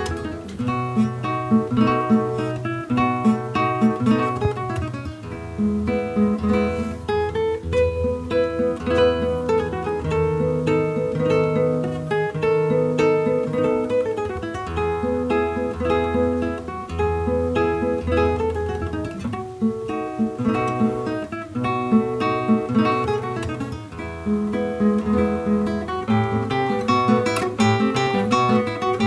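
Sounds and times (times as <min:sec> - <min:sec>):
solo classical guitar: 0:00.0 - 0:29.0.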